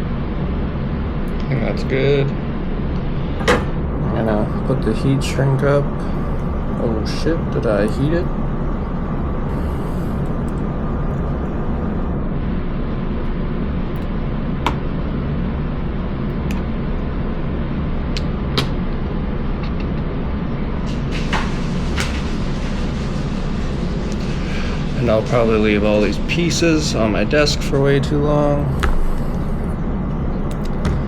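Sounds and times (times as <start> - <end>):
furnace humming: 0.0 - 31.0.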